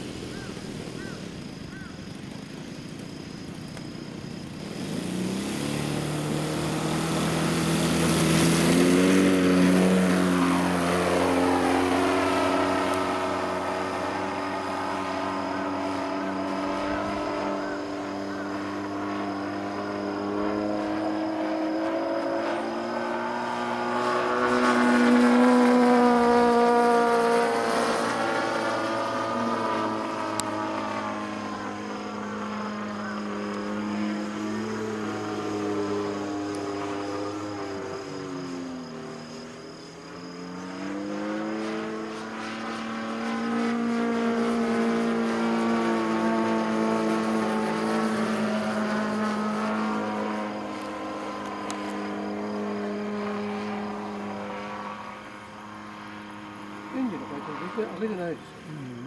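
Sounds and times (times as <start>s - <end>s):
model airplane propeller motor buzzing: 4.1s - 22.7s, 23.3s - 54.6s.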